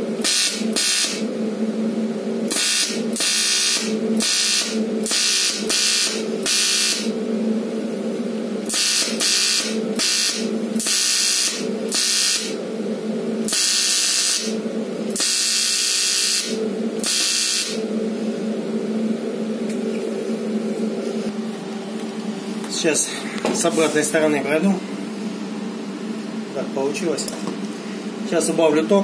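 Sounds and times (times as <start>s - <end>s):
welding arc buzz: 0.0s - 24.6s.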